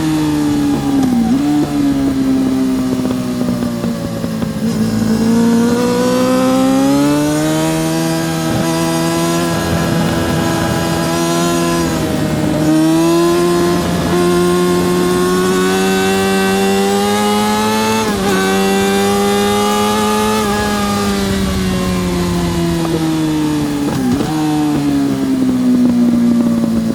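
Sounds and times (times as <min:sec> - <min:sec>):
motorcycle engine accelerating: 0:00.0 - 0:26.9
quick gear changes: 0:00.0 - 0:26.9.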